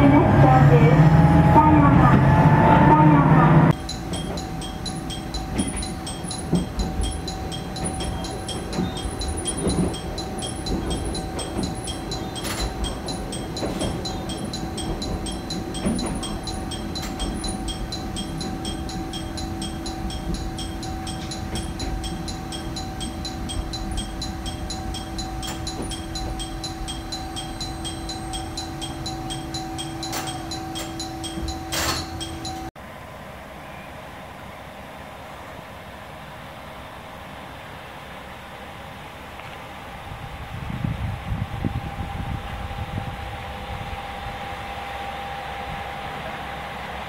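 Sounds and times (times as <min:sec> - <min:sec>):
railcar engine and wheels rumbling: 0:00.0 - 0:47.0.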